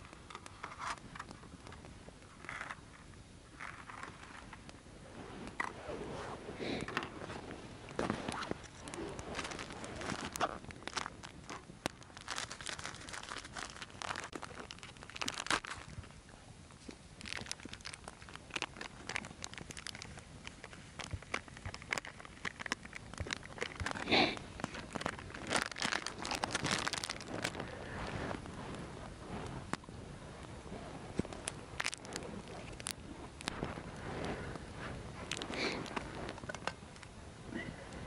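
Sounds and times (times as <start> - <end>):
crunching and crackling: 0.0 - 38.0.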